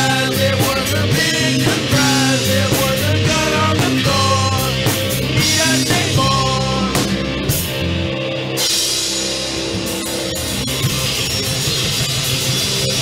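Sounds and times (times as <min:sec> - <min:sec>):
rock band playing loudly: 0:00.0 - 0:13.0.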